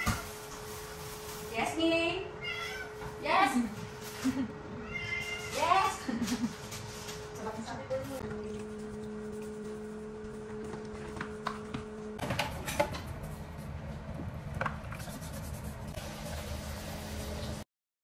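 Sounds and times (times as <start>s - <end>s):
electrical hum: 0.0s - 17.6s.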